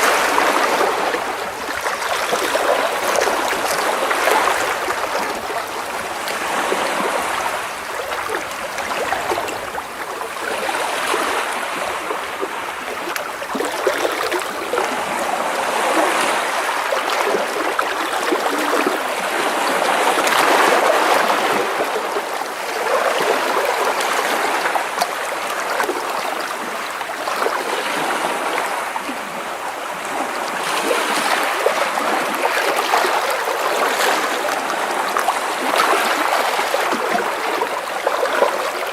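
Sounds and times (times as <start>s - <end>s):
small waves splashing against rocks: 0.0s - 29.1s, 30.0s - 38.9s.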